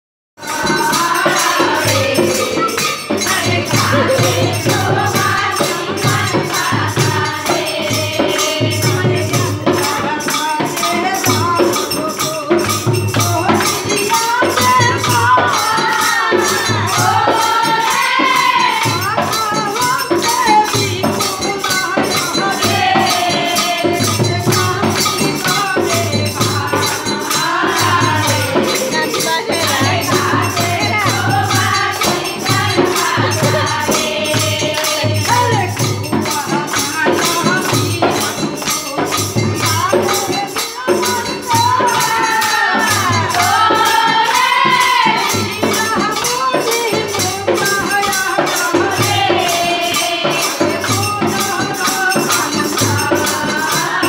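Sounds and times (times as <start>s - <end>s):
voices chanting a melody: 0.4s - 11.7s, 13.5s - 19.3s, 20.5s - 40.0s, 40.9s - 47.1s, 48.6s - 54.0s
barrel drum beats: 0.4s - 54.0s
hand cymbals struck: 0.4s - 54.0s.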